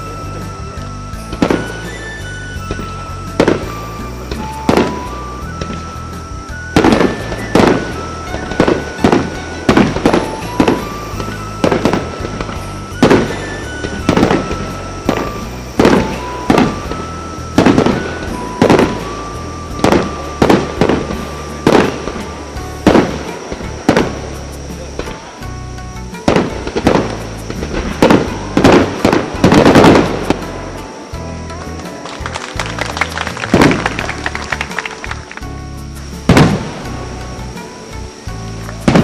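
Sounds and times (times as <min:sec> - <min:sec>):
background music: 0:00.0 - 0:39.0
fireworks booming: 0:00.0 - 0:39.0.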